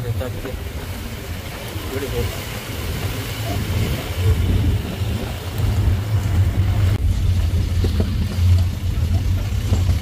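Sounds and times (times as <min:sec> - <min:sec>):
road noise: 0:00.0 - 0:10.0
truck engine rumbling: 0:00.0 - 0:10.0.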